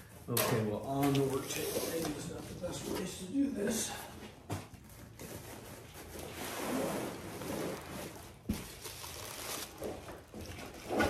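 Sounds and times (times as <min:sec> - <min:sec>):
cardboard and bubble wrap rustling: 0:00.5 - 0:03.3, 0:04.4 - 0:11.0.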